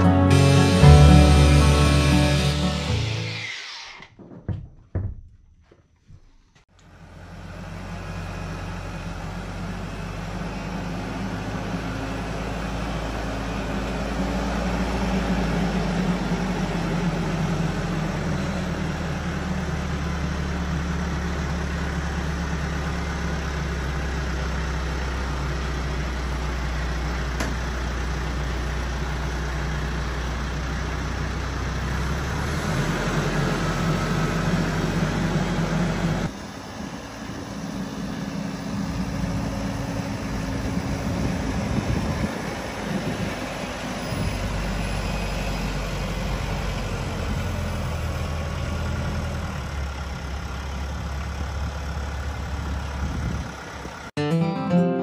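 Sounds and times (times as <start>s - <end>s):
diesel tractor engine running: 0.0s - 3.3s, 6.7s - 54.1s.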